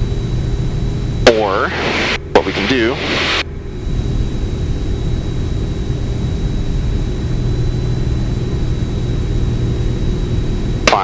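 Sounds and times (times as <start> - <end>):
faint high whine: 0.0 - 11.0
propeller plane engine drone: 0.0 - 11.0.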